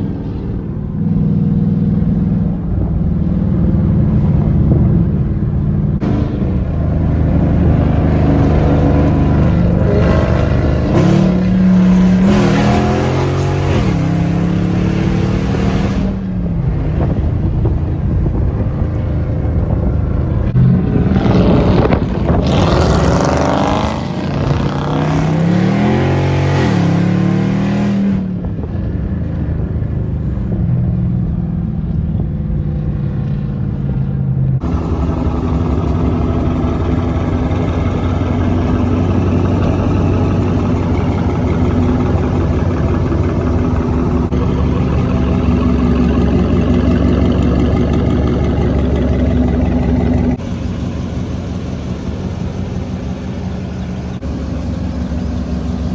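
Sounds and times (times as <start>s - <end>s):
loud car engine revving: 0.0s - 29.7s, 33.0s - 55.9s.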